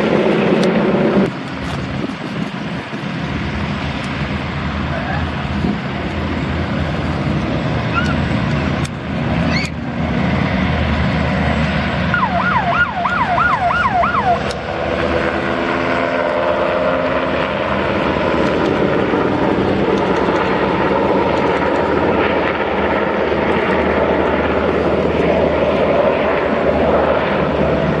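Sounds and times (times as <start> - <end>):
helicopter rotor and engines: 0.0 - 28.0.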